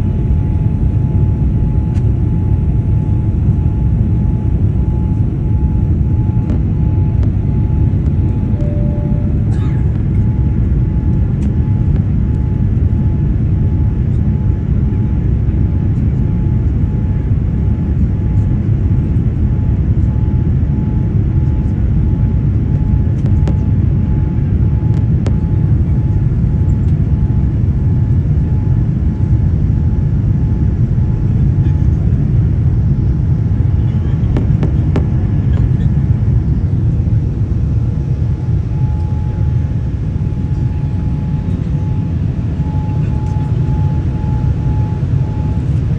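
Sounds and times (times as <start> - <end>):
faint steady whine: 0.0 - 45.9
jet engines rumbling: 0.0 - 45.9.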